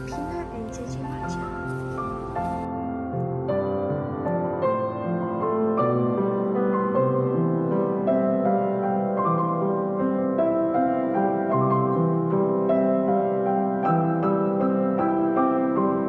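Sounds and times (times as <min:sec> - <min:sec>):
gentle piano tune: 0:00.0 - 0:16.0.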